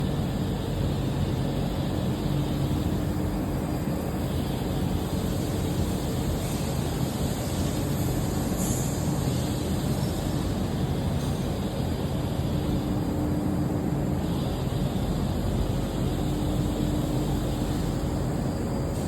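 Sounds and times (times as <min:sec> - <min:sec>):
machine mechanical drone: 0:00.0 - 0:19.0.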